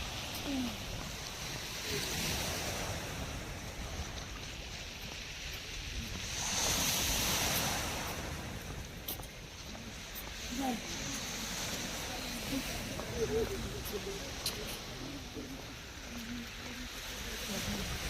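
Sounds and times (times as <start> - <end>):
sea surf washing on shore: 0.0 - 18.0
wind rumble on microphone: 0.0 - 18.0.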